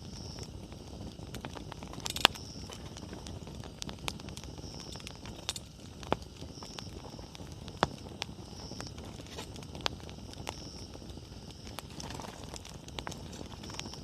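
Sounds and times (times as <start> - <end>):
campfire flame rumble: 0.0 - 14.0
firewood crackling and popping: 0.0 - 14.0.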